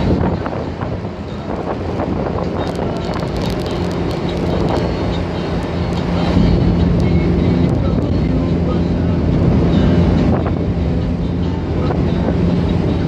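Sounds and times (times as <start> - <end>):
car engine and tyre drone: 0.0 - 13.0.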